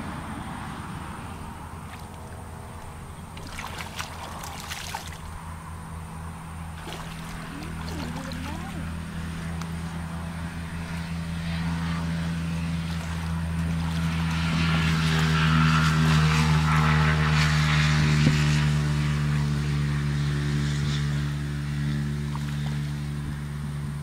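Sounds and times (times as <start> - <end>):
small engine running: 2.9 - 24.0.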